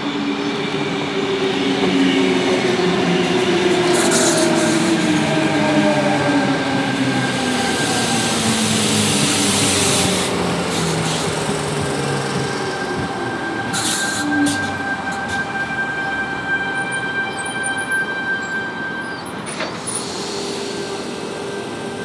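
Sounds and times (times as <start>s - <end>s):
train rolling rumble: 0.0s - 22.0s.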